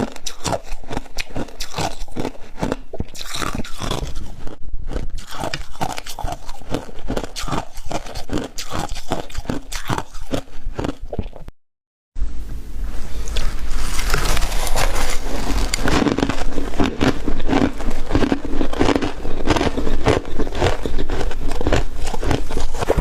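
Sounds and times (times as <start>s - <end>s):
frost being chewed crunching: 0.0s - 11.5s, 13.3s - 23.0s.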